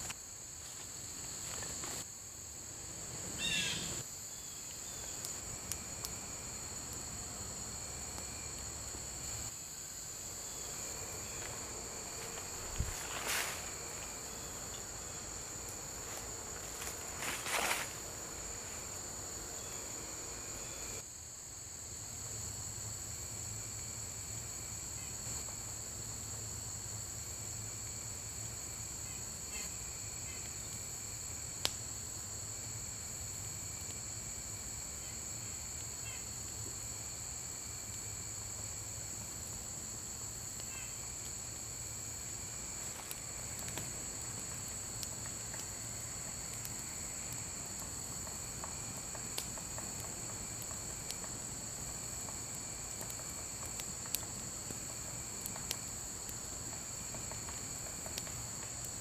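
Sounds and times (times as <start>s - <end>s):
high insect chorus: 0.0s - 59.0s
lower repeating insect call: 0.0s - 59.0s.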